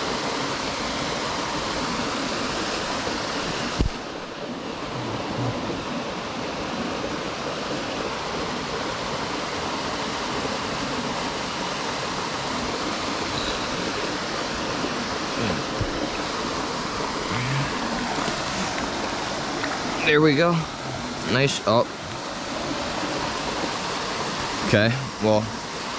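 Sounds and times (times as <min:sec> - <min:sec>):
stream rushing over rocks: 0:00.0 - 0:25.9.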